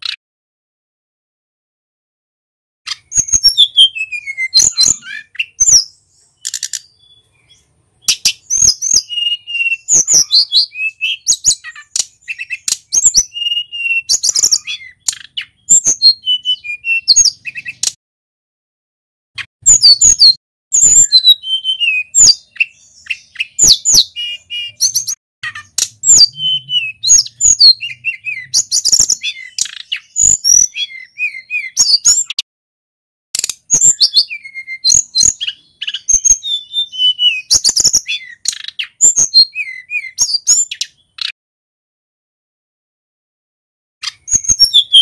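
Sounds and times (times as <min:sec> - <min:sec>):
songbird singing whistles and chirps: 0:02.9 - 0:18.0, 0:19.4 - 0:32.4, 0:33.4 - 0:41.4, 0:44.0 - 0:45.0.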